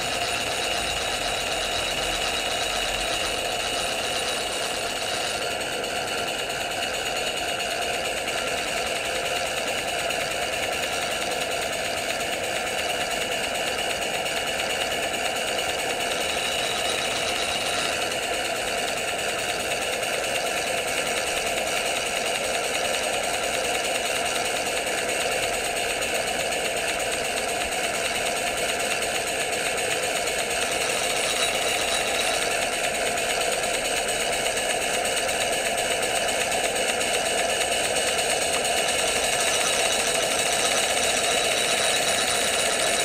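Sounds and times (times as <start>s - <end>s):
steam engine rapid mechanical chatter: 0.0s - 43.0s.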